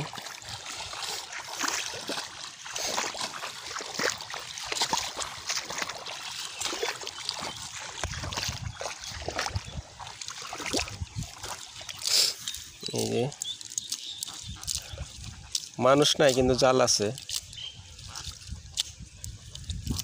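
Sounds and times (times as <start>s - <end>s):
cast net swishing and dripping: 0.0s - 20.0s
man wading through muddy water: 0.0s - 20.0s.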